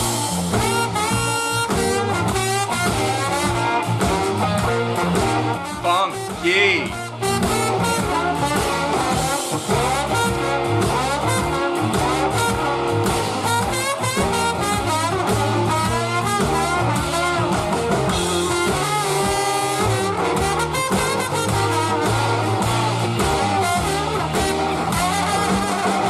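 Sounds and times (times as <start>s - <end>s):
bass guitar: 0.0s - 26.0s
drums: 0.0s - 26.0s
electric guitar: 0.0s - 26.0s
horns playing: 0.0s - 26.0s.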